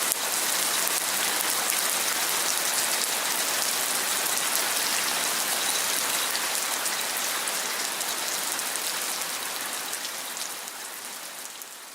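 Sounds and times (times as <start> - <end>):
heavy rain falling: 0.0 - 11.5.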